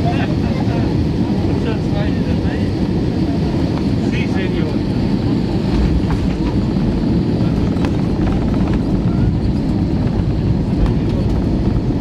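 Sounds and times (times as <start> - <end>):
aircraft rumble on runway: 0.0 - 12.0.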